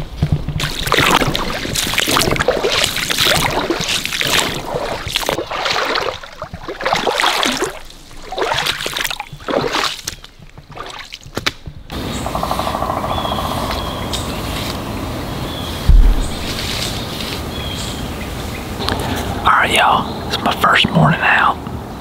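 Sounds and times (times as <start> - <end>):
footsteps crunching through dry leaves: 0.0 - 19.2.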